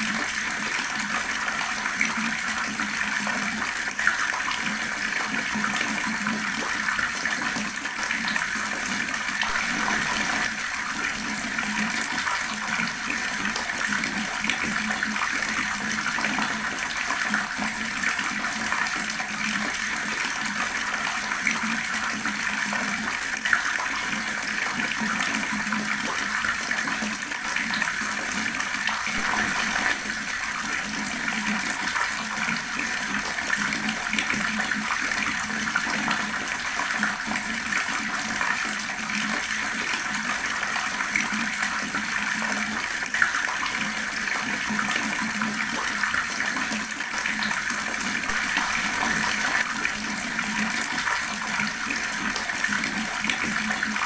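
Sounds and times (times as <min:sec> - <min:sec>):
water tap running: 0:00.0 - 0:54.0.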